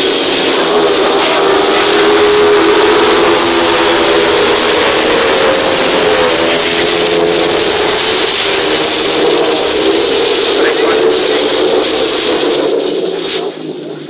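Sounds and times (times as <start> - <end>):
motorcycles racing at high revs: 0.0 - 14.0.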